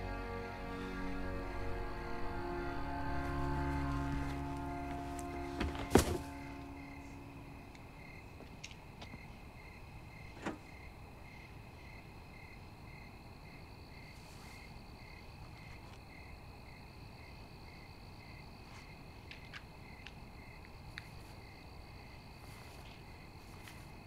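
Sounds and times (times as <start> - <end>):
crickets chirping: 0.0 - 24.0
faint high insect drone: 0.0 - 24.0.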